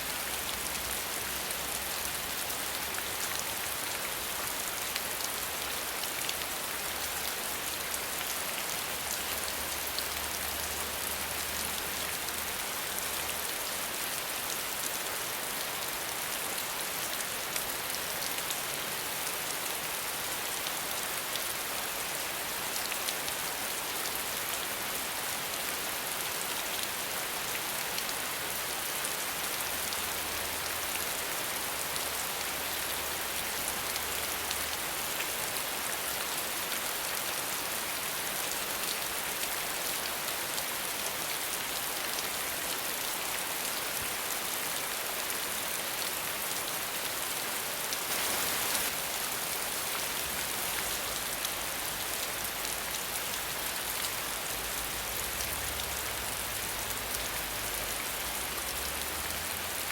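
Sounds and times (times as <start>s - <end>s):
rain hissing on a surface: 0.0s - 59.9s.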